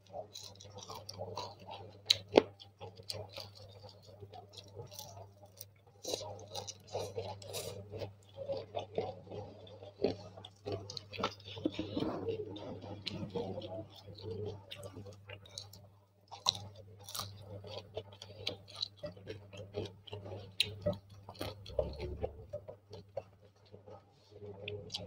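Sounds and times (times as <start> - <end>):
chewing with crunches: 0.0 - 25.0
low steady hum: 0.0 - 25.0.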